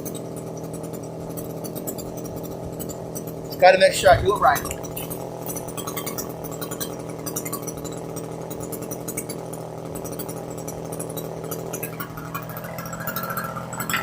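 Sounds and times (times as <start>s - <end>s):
chainsaw engine running: 0.0s - 14.0s.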